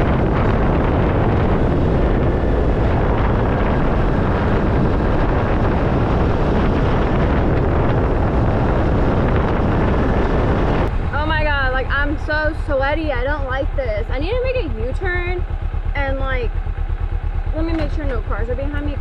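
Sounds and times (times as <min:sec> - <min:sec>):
motorcycle riding noise: 0:00.0 - 0:19.0
wind buffeting microphone: 0:00.0 - 0:19.0.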